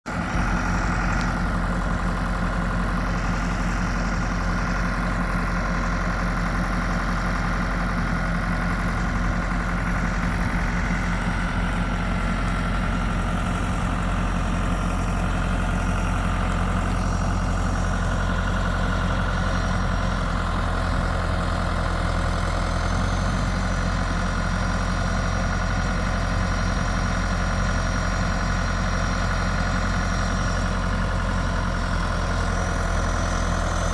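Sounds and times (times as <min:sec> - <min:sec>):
tractor engine running steadily: 0:00.0 - 0:33.9.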